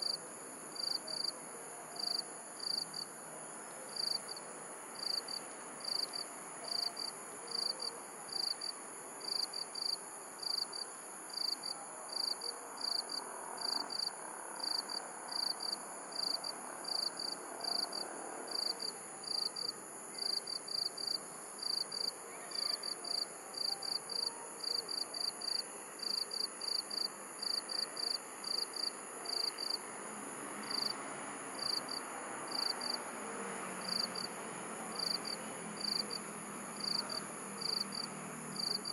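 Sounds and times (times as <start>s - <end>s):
crickets chirping: 0.0s - 38.9s
faint steady background hiss: 0.0s - 38.9s.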